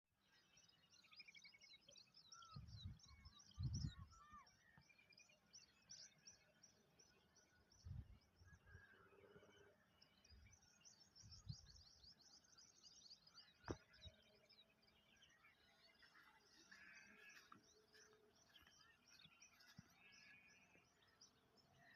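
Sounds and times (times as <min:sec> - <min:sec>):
songbirds chirping: 0:00.1 - 0:21.9.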